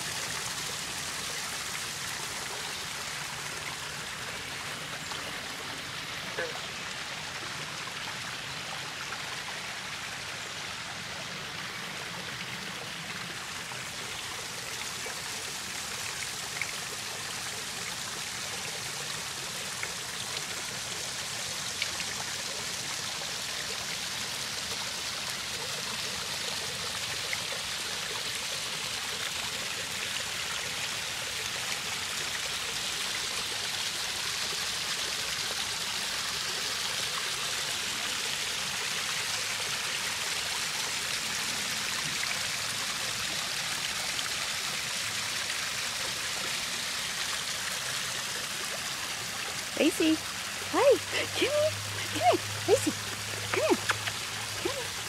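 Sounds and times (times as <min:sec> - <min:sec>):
waterfall splashing over stones: 0:00.0 - 0:55.0.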